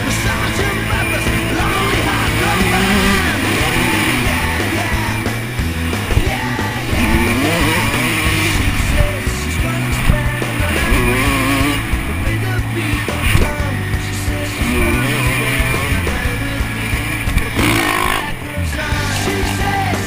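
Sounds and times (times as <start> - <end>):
punk rock music with singing: 0.0 - 20.0.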